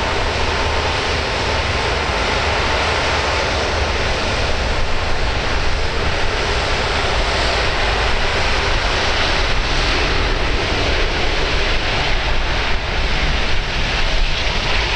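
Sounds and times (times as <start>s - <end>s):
jet engines roaring: 0.0s - 14.9s.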